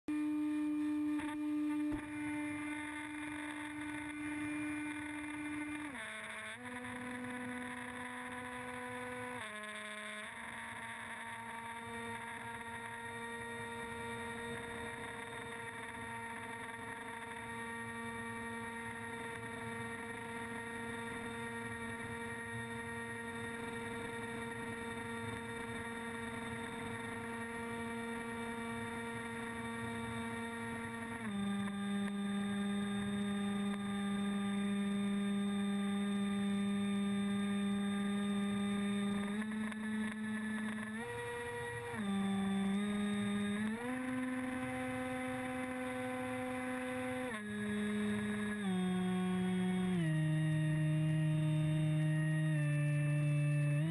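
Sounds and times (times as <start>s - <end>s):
drone motors whining: 0.1s - 53.9s.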